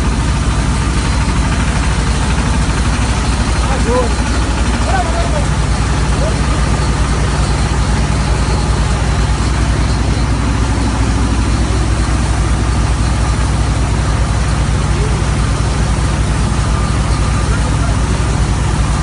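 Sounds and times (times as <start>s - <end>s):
drilling rig engine humming: 0.0s - 19.0s.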